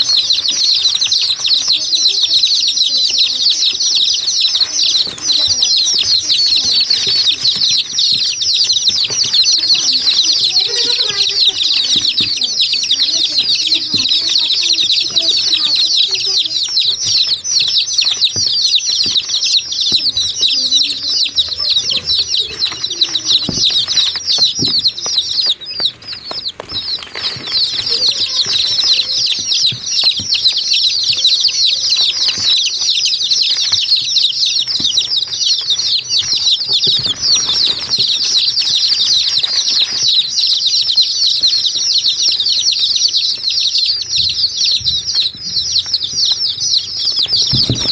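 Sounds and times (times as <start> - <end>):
flock of small birds chirping: 0.0 - 47.9.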